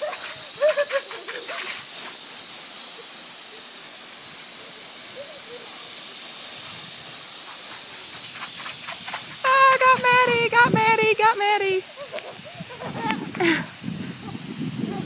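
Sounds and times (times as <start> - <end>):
garden hose spray hissing: 0.0 - 15.0.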